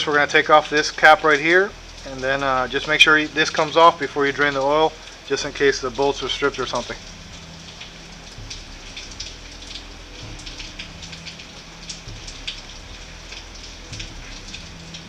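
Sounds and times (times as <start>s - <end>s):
steady rain falling: 0.0s - 15.0s
drops ticking on surfaces: 1.8s - 15.0s.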